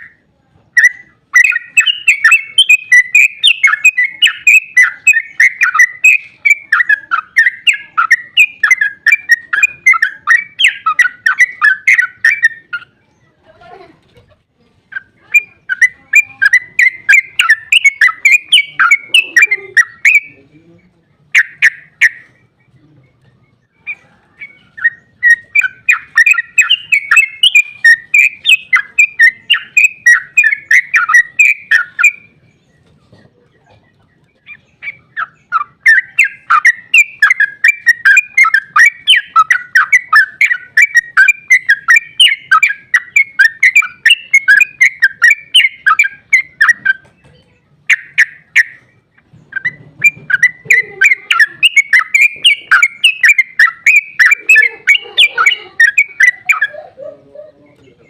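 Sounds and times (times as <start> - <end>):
bulbul bubbling song: 0.0 - 13.0, 14.9 - 20.4, 21.2 - 22.6, 23.6 - 32.4, 34.0 - 47.1, 47.8 - 56.9.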